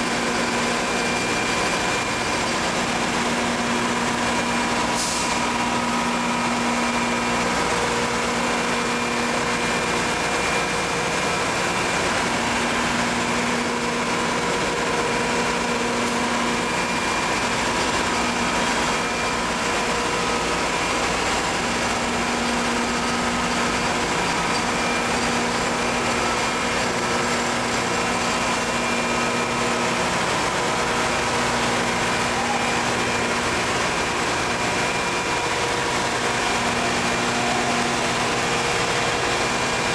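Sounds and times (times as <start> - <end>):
machine running with high tone: 0.0 - 39.9.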